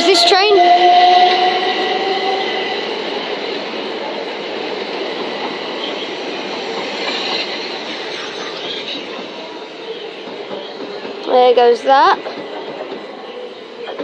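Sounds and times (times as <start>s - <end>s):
train wheels rumbling over track: 0.0s - 14.0s.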